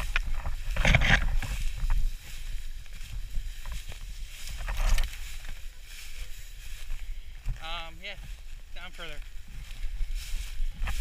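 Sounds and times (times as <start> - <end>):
dry grass brushing and swishing: 0.0 - 11.0
footsteps: 0.0 - 11.0
low wind rumble on microphone: 0.0 - 11.0.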